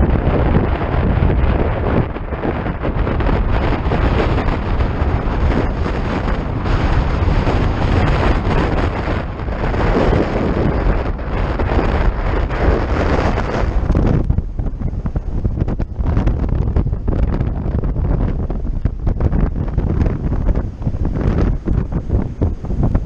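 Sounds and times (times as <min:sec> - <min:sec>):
rough surf: 0:00.0 - 0:23.0
wind buffeting microphone: 0:00.0 - 0:23.0.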